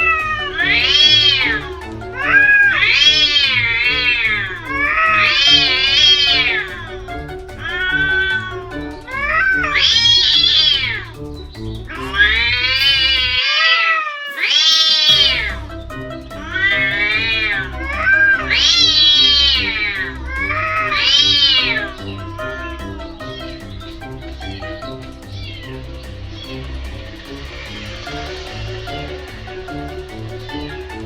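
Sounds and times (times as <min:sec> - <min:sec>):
cats yowling: 0:00.0 - 0:11.1, 0:11.9 - 0:26.6
background music: 0:00.0 - 0:13.5, 0:14.4 - 0:31.0.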